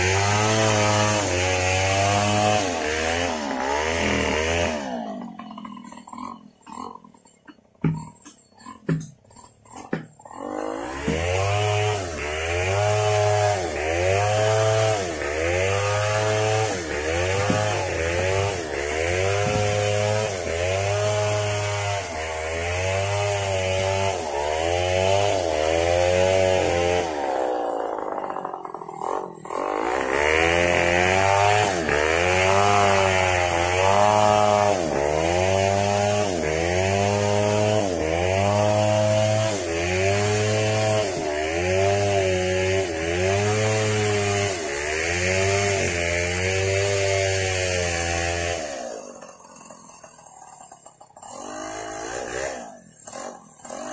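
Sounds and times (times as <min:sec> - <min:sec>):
chainsaw cutting a log: 0:00.0 - 0:53.9.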